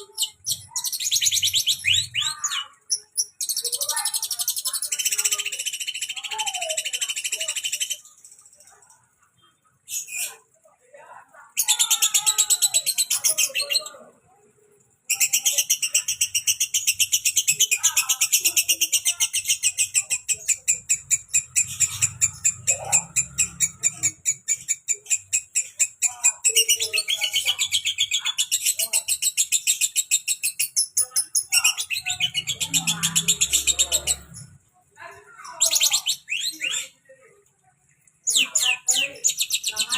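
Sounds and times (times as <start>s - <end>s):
bird chattering trill: 0.0s - 10.5s, 11.6s - 14.2s, 15.0s - 37.1s, 38.0s - 39.9s.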